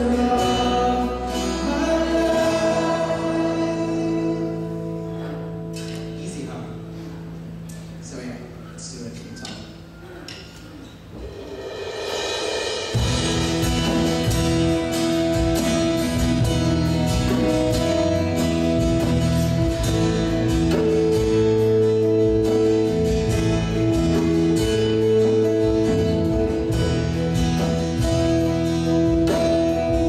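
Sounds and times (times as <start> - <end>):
strummed acoustic guitar: 0.0 - 10.5, 12.9 - 30.0
live band playing worship song: 0.0 - 30.0.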